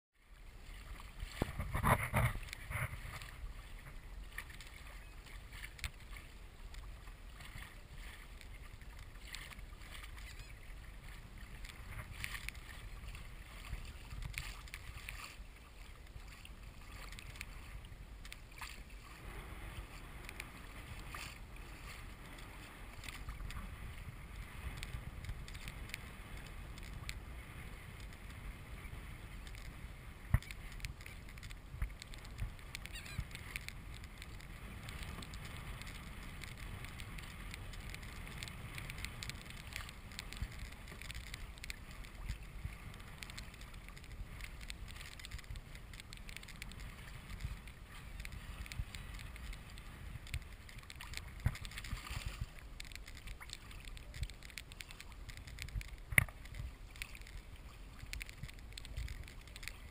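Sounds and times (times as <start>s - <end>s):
water against kayak hull: 0.1s - 59.9s
low wind rumble on microphone: 0.2s - 59.9s.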